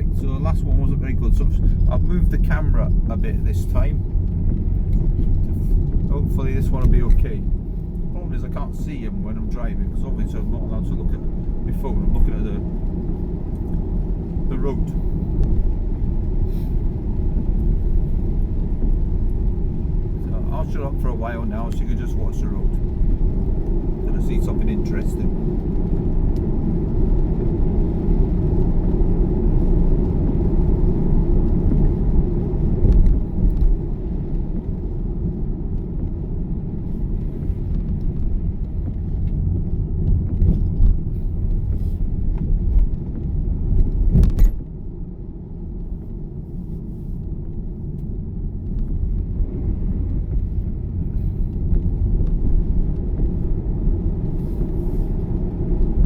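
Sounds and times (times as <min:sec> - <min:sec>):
engine and tyres on wet road: 0:00.0 - 0:56.0.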